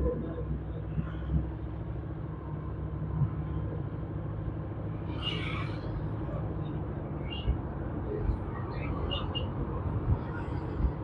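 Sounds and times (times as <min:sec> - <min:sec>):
road noise: 0:00.0 - 0:11.0
vehicle engine humming: 0:00.0 - 0:11.0.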